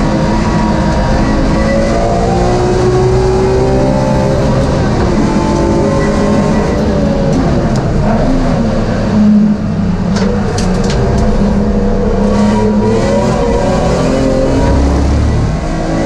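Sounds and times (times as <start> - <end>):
race car engine from inside cabin: 0.0 - 16.0.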